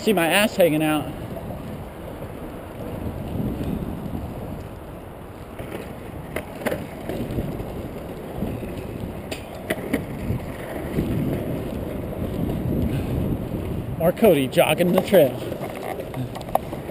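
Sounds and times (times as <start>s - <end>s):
skateboard wheels rolling on pavement: 0.0s - 16.9s.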